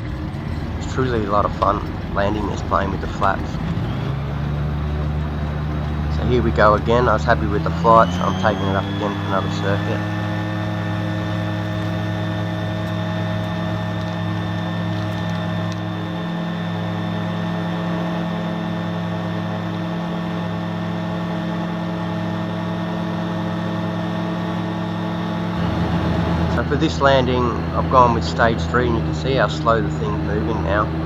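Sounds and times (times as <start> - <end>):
light aircraft engine and propeller: 0.0 - 31.0.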